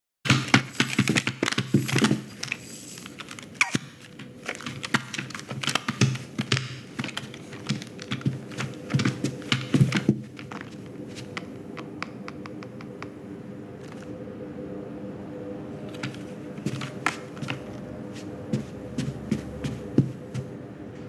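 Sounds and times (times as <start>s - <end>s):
faint steady hum: 1.7s - 21.0s.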